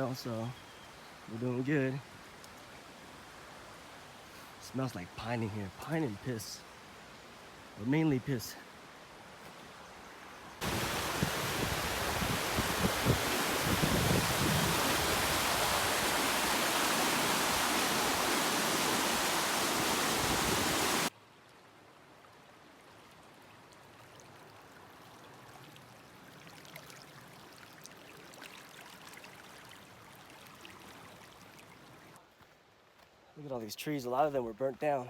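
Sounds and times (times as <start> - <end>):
creek water rushing: 0.0 - 32.2.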